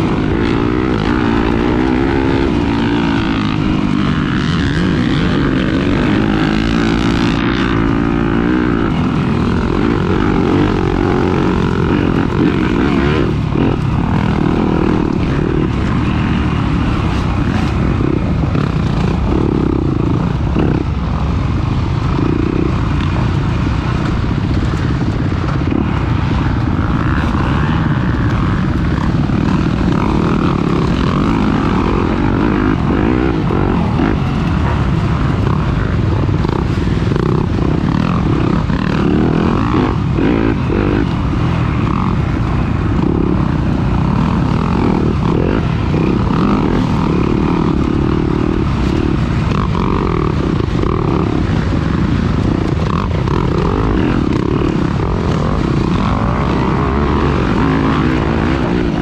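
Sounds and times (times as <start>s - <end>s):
dirt bike engine droning: 0.0s - 59.0s.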